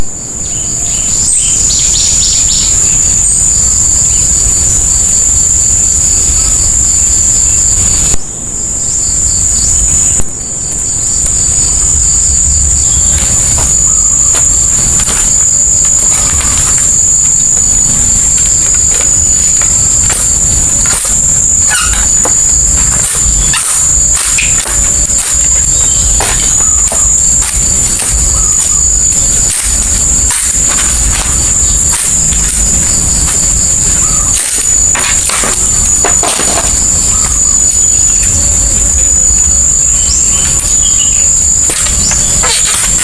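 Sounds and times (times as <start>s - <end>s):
insects shrilling: 0.0s - 43.0s
pulsing insect trill: 0.0s - 43.0s.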